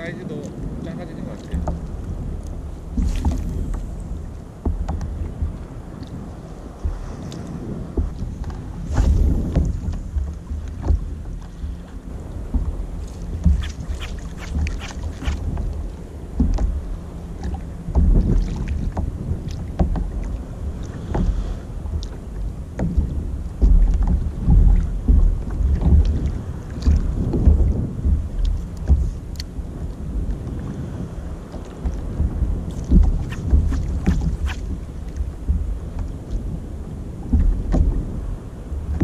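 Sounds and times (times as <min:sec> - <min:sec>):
waves lapping against hull: 0:00.0 - 0:39.0
wind buffeting microphone: 0:00.0 - 0:39.0.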